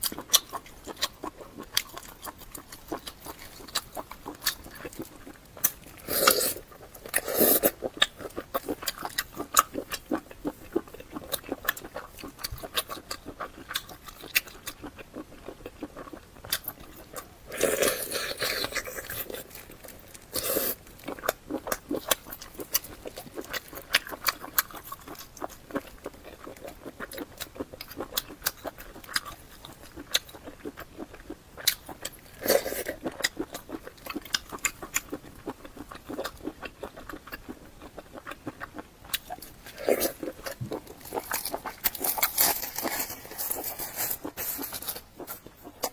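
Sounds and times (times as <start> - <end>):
wet chewing and mouth clicks: 0.0 - 45.9.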